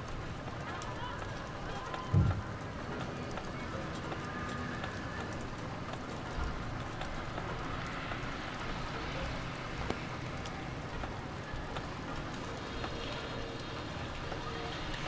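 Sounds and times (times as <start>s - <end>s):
raindrops ticking on surfaces: 0.0s - 15.0s
steady rain: 0.0s - 15.0s.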